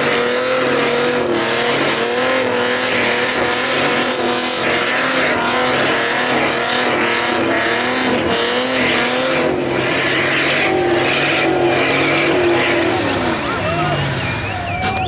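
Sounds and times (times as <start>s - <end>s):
engine at high revs: 0.0s - 15.0s
tires squealing on pavement: 0.0s - 15.0s.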